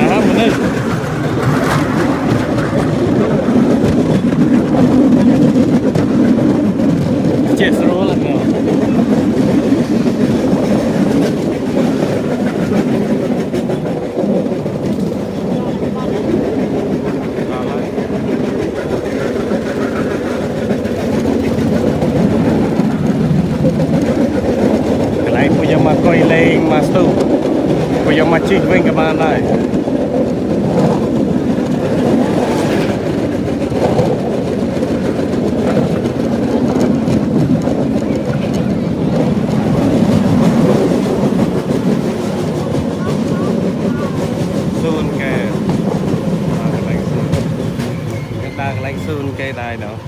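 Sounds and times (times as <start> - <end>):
rail trolley rumbling and rattling: 0.0 - 50.0.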